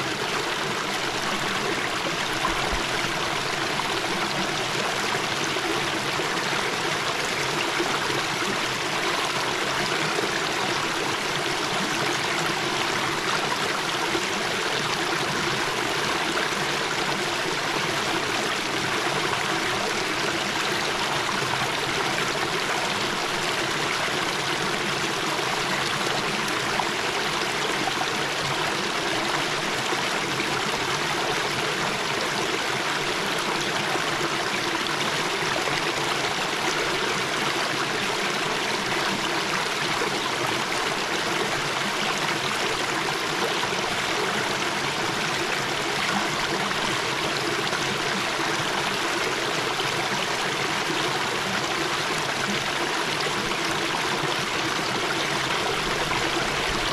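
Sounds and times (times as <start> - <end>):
brook babbling over rocks: 0.0 - 56.9.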